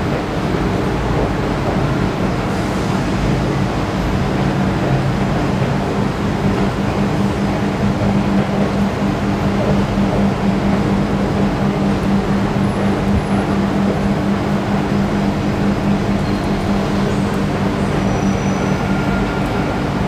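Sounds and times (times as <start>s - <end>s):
constant low hum: 0.0s - 20.0s.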